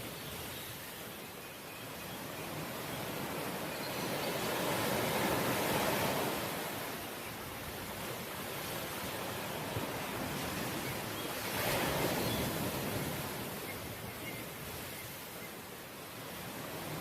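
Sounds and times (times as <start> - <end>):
sea waves rushing: 2.5 - 17.0.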